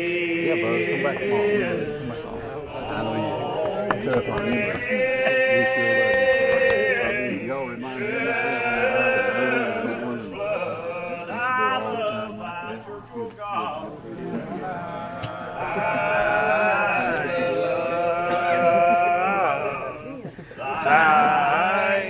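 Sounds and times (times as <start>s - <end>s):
congregation singing a hymn: 0.0s - 22.0s.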